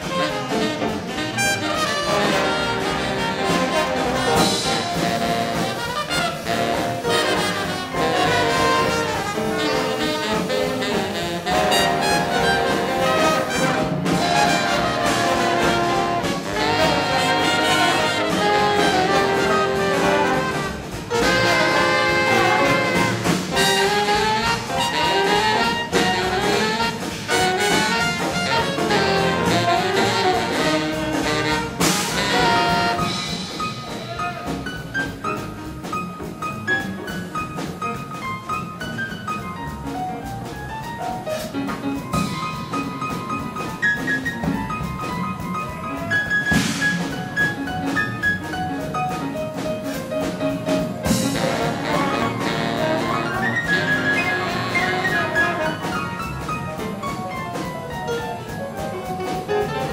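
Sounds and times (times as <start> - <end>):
big band swing jazz: 0.0 - 59.9.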